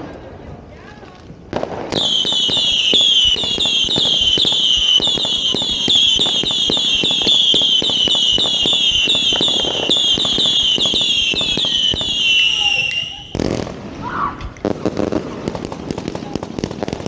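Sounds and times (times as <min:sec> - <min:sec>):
firework pops and crackle: 0:01.0 - 0:17.0
whistling firework shots: 0:01.6 - 0:17.0.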